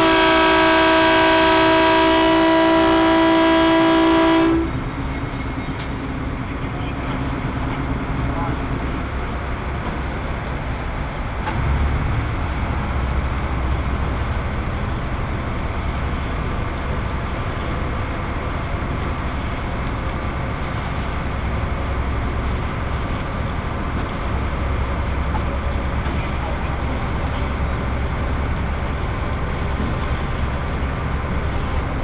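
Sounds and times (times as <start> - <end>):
diesel locomotive engine running: 0.0 - 32.0
train rumbling on rails: 0.0 - 32.0.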